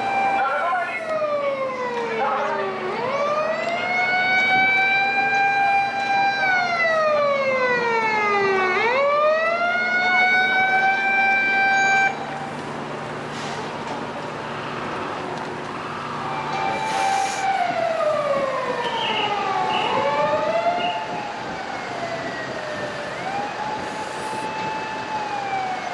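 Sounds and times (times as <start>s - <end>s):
fire engine siren wailing: 0.0s - 25.9s.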